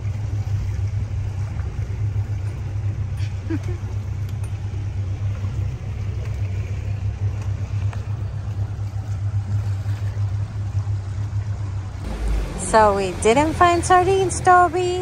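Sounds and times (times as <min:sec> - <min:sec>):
faint rushing water: 0:00.0 - 0:15.0
motorboat engine running: 0:00.0 - 0:15.0.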